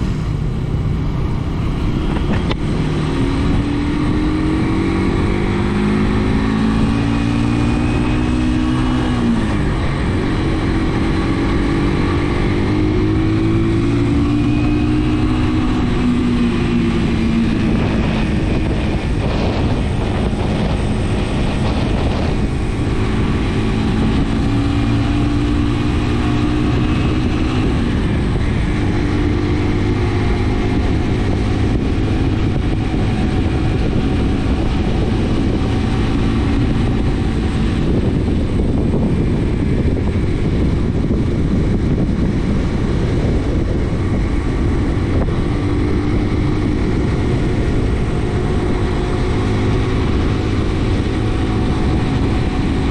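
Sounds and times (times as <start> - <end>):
motorcycle engine running: 0.0 - 52.9
wind noise: 0.0 - 52.9.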